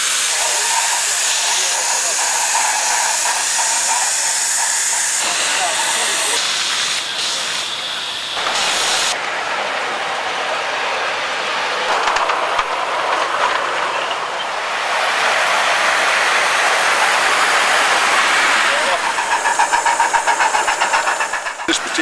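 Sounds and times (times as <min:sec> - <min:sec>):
model steam locomotive hissing: 0:00.0 - 0:13.8, 0:14.4 - 0:22.0.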